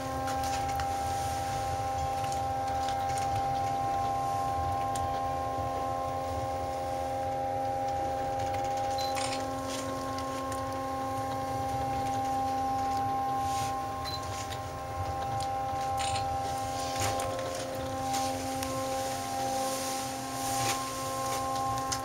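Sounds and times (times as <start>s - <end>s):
cable car rumble and whine: 0.0s - 22.0s.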